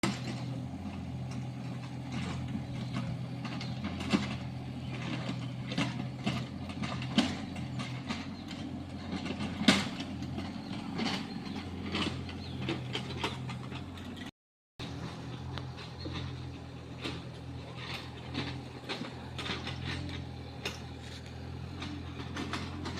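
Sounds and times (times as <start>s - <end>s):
excavator diesel engine running: 0.0s - 22.9s
metallic clanks and knocks: 0.0s - 22.9s.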